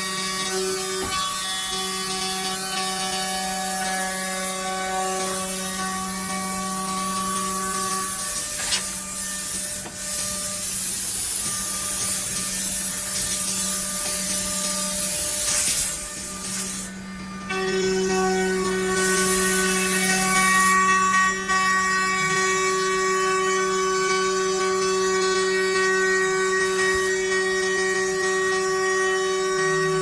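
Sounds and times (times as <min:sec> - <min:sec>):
drilling machine hum and hiss: 0:00.0 - 0:30.0.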